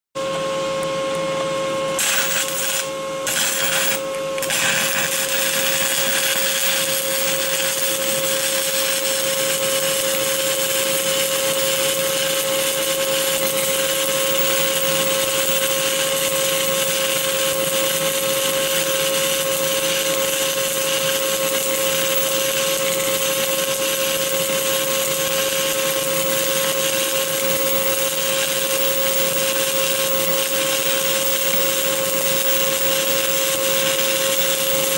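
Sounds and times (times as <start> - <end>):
welding arc hissing: 2.0 - 34.9.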